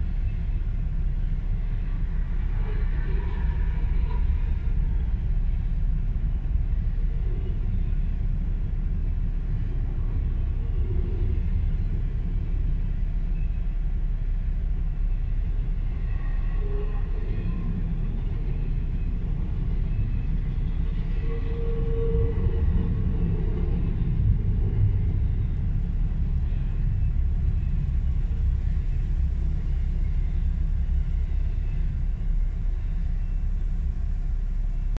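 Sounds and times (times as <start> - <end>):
freight train low rumble: 0.0 - 35.0.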